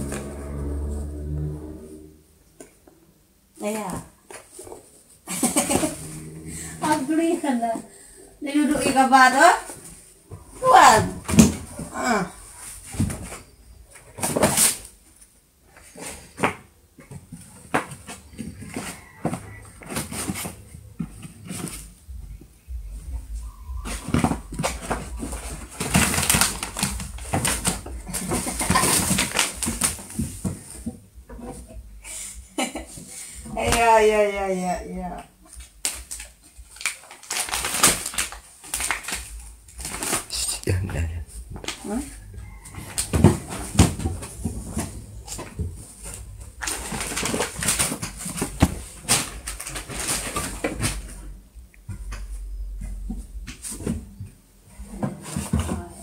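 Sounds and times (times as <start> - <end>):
rustling and scraping: 3.7 - 56.0.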